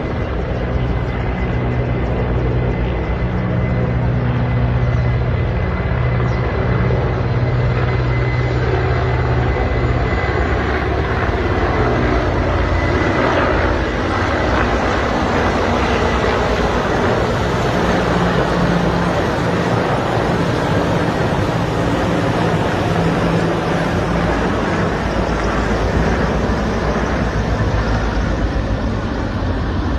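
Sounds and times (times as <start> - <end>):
helicopter rotor and turbine: 0.0 - 29.9.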